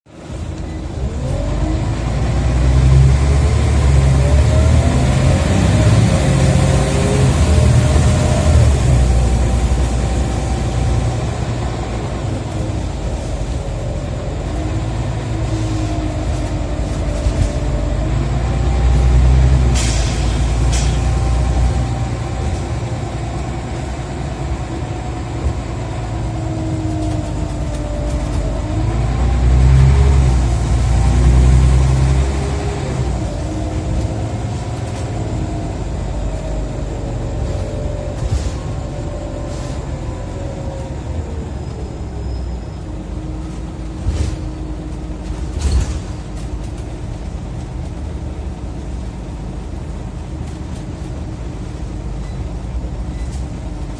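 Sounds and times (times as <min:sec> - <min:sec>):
bus engine and gearbox whine: 0:00.0 - 0:53.9.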